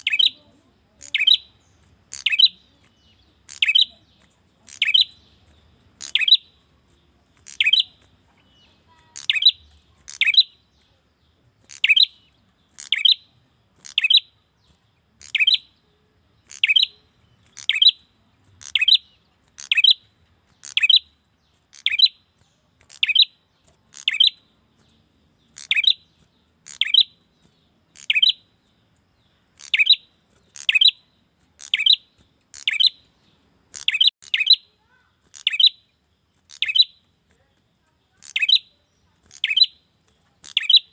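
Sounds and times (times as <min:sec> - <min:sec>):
bird chirping sharply: 0:00.0 - 0:06.6, 0:07.4 - 0:11.0, 0:11.6 - 0:15.8, 0:16.4 - 0:28.6, 0:29.5 - 0:37.1, 0:38.2 - 0:40.9.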